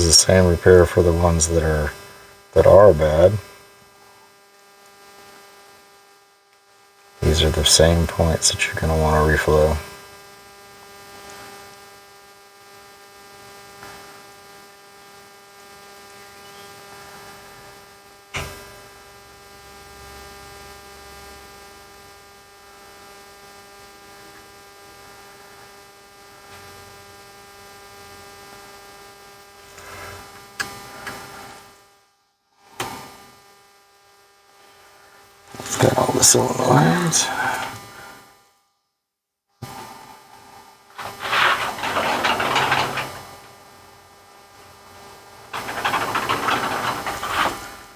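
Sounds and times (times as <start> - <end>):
electrical hum: 0.0 - 47.9.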